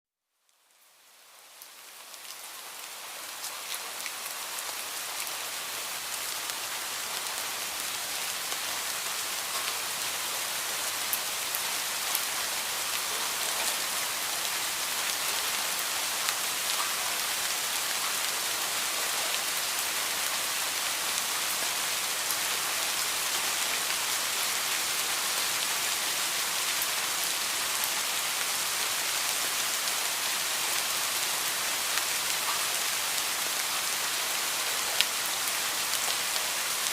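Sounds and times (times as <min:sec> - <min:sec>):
heavy rain falling: 0:00.6 - 0:36.9.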